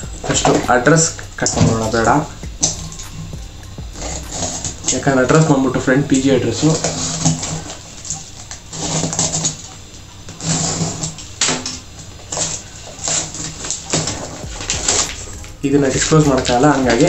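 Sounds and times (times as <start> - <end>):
paper rustling: 0.0 - 17.0.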